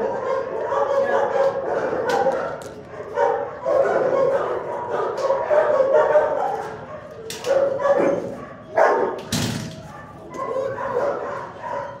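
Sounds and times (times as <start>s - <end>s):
dog barking and whining: 0.0s - 12.0s.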